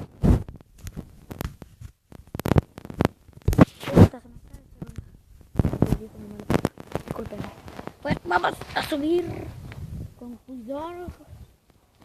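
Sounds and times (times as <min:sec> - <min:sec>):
short rustling bursts: 0:00.0 - 0:12.0.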